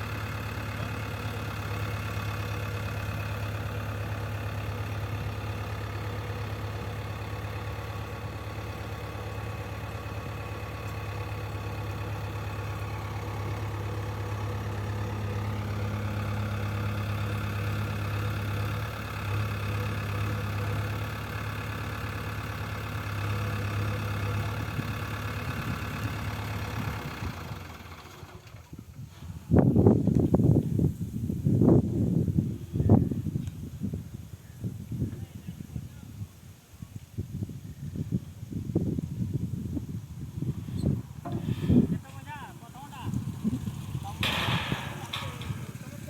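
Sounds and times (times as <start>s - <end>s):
diesel engine running: 0.0s - 33.4s, 37.5s - 46.0s.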